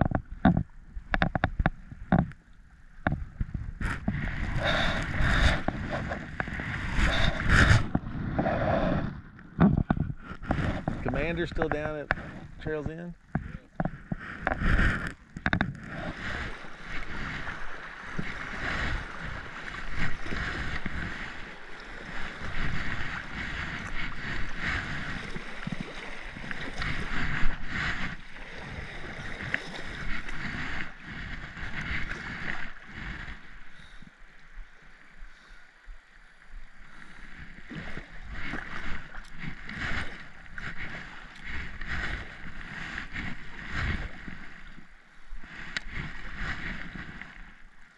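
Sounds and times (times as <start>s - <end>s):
kayak paddle splashing: 0.0s - 47.9s
water rushing around hull: 0.0s - 47.9s.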